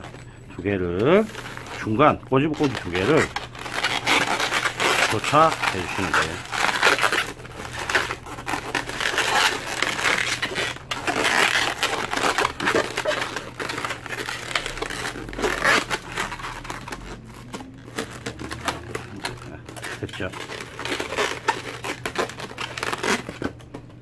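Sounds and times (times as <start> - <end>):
balloons rubbing and squeaking: 0.0 - 24.0.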